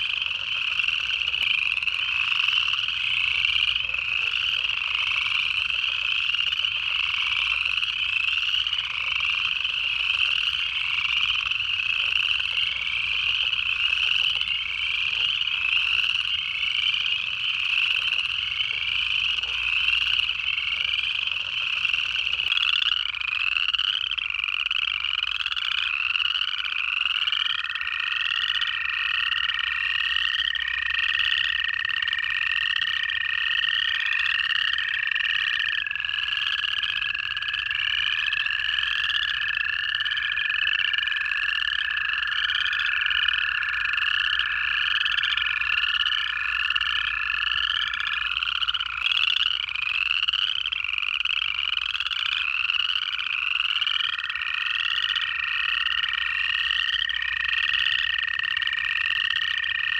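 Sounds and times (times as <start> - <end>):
chorus frogs trilling: 0.0 - 59.9
toads long steady trills: 0.0 - 59.9.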